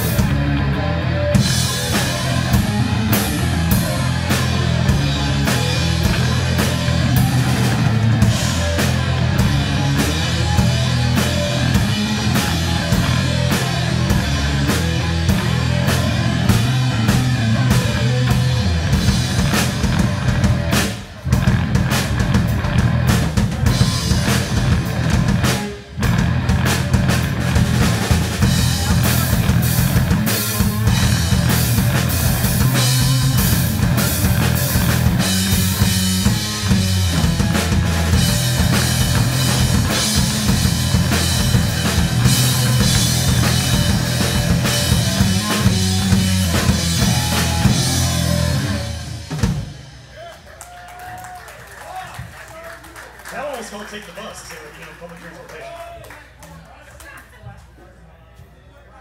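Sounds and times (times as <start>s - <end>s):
electric guitar: 0.0s - 50.0s
drum kit: 0.0s - 50.4s.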